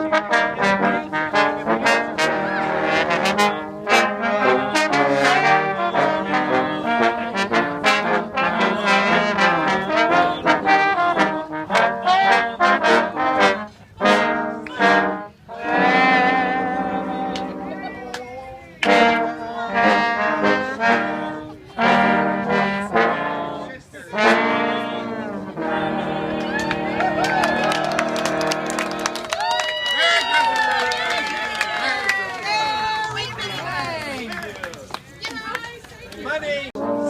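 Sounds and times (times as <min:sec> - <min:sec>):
brass band playing: 0:00.0 - 0:34.4, 0:36.5 - 0:37.0.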